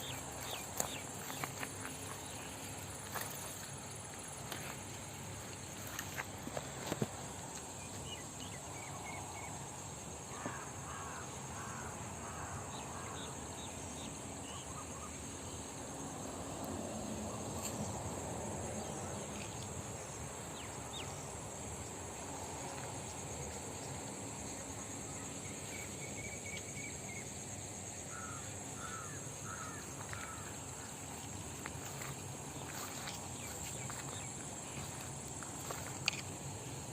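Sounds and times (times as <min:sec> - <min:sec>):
insect drone: 0:00.0 - 0:36.9.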